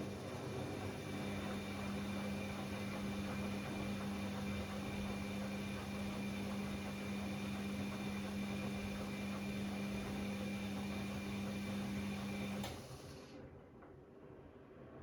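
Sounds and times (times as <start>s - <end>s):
washing machine hum and hiss: 0.0s - 15.0s.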